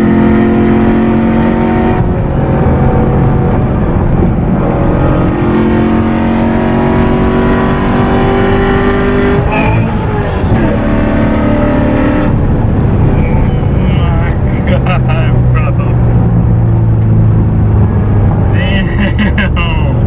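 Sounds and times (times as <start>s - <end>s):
car engine heard from cabin: 0.0s - 20.0s.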